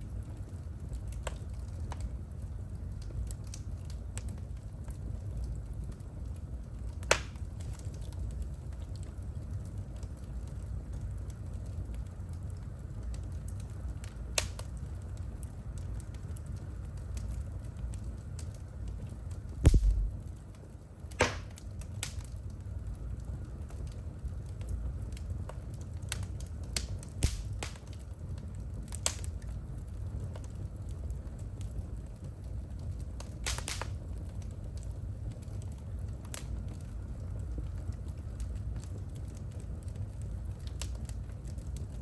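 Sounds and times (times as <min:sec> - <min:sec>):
fire crackling and popping: 0:00.0 - 0:42.0
flames rumbling: 0:00.0 - 0:42.0.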